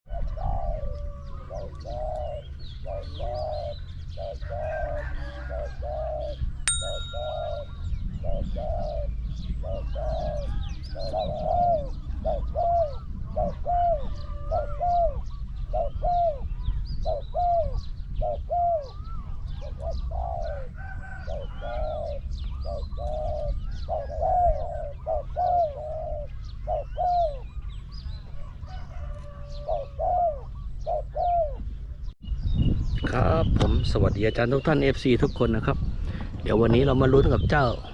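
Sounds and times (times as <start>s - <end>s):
doves cooing: 0.1s - 32.1s
small birds chirping: 0.1s - 37.9s.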